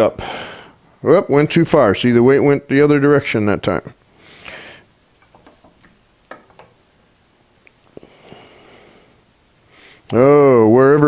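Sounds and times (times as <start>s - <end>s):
soft hiss: 0.0s - 11.0s.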